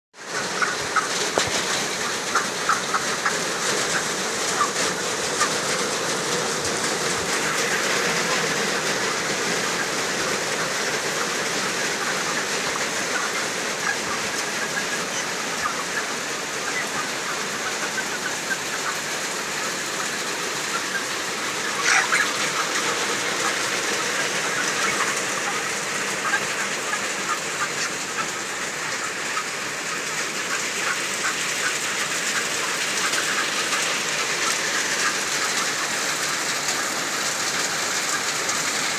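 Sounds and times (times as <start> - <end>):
chickens chirping and calling: 0.2 - 38.9.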